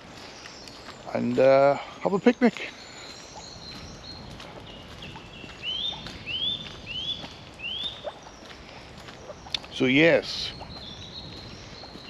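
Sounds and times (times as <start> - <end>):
bird chirping: 0.0 - 12.0
faint footsteps on path: 0.0 - 12.0.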